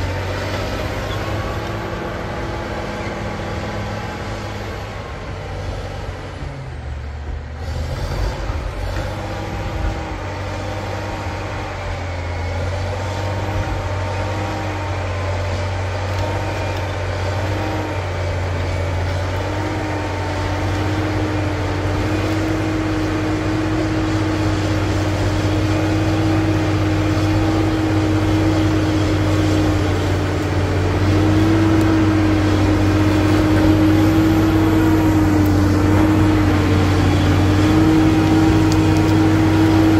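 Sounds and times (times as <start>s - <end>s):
whining tone: 0.0s - 7.2s, 8.1s - 39.9s
bulldozer diesel engine under load: 0.0s - 39.9s.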